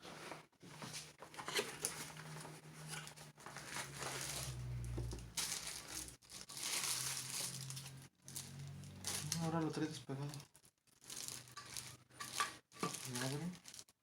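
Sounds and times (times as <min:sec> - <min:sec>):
packaging crinkling and rustling: 0:00.7 - 0:14.0.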